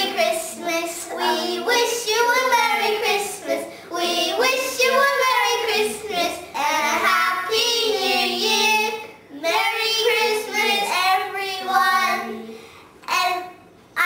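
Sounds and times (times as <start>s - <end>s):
children singing: 0.0s - 13.6s.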